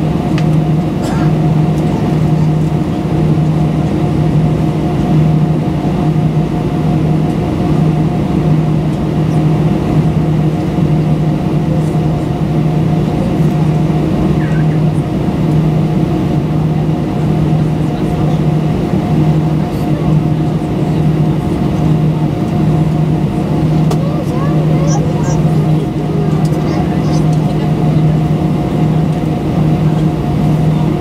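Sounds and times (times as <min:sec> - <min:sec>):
airplane cabin hum: 0:00.0 - 0:31.0.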